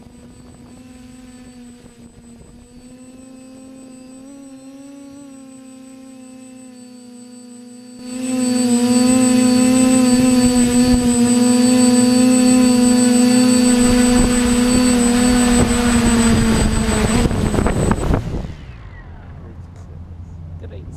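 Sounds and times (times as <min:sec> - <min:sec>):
drone motors whining: 0:00.0 - 0:20.8.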